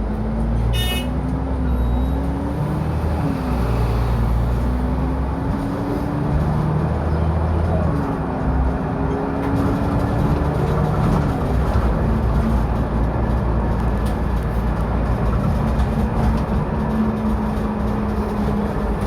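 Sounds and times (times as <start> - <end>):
bus engine whining: 0.0 - 19.0.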